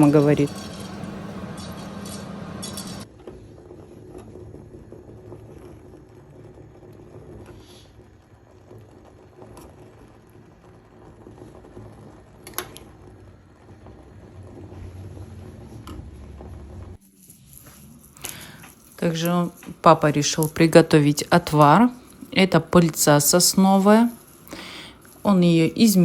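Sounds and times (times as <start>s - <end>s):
kitchen hum: 0.0s - 26.0s.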